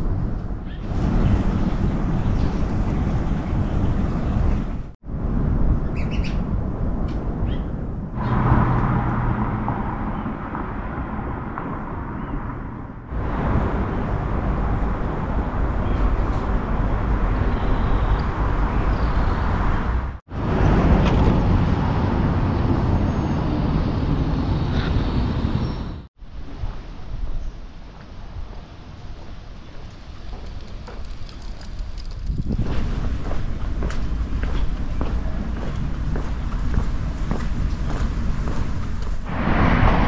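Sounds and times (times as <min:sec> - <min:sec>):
road traffic noise: 0:00.0 - 0:26.8, 0:27.4 - 0:40.0.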